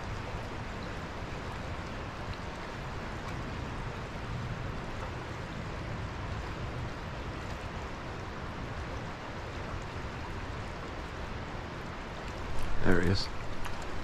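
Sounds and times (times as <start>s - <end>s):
creek water rushing over riffles: 0.0s - 14.0s.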